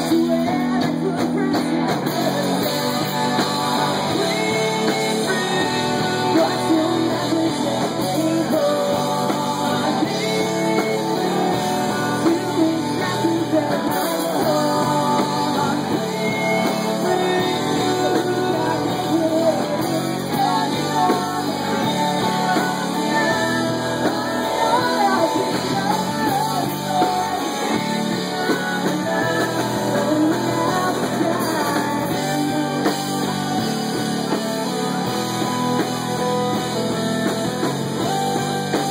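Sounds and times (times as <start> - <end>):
electric guitar: 0.0 - 38.9
person singing: 0.0 - 38.9
rock band playing live: 0.0 - 38.9.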